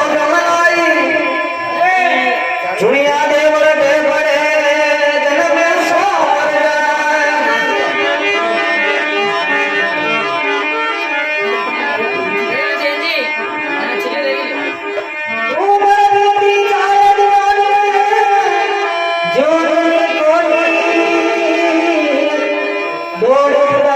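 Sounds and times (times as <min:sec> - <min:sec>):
harmonium melody: 0:00.0 - 0:23.9.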